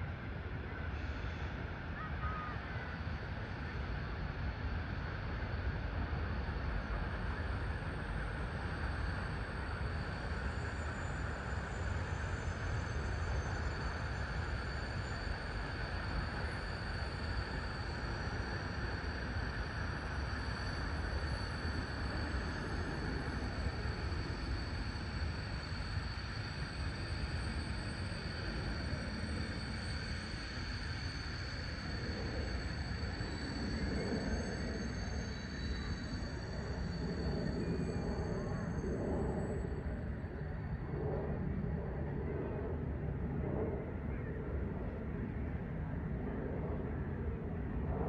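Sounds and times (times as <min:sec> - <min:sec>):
distant jet engine rumble: 0:00.1 - 0:48.0.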